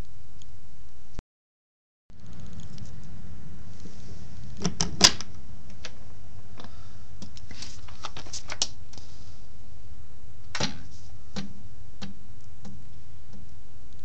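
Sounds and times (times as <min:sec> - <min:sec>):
steady low hum: 0:02.1 - 0:14.0.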